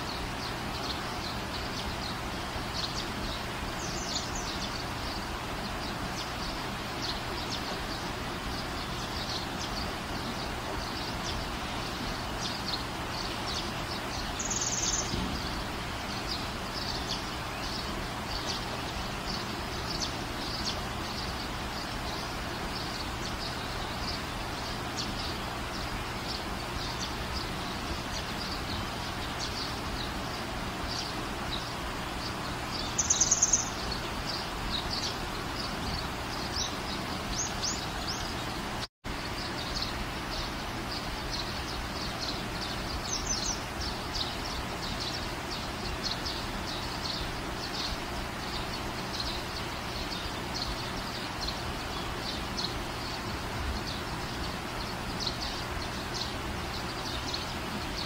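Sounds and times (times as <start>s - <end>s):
small birds chirping: 0.0s - 58.0s
steady background noise: 0.0s - 58.0s.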